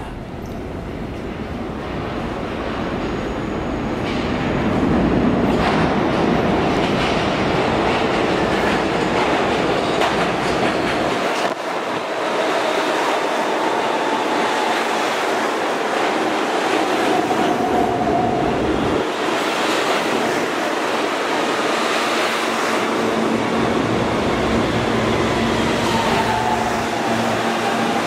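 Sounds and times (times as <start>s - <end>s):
subway train rumbling on rails: 0.0s - 28.0s.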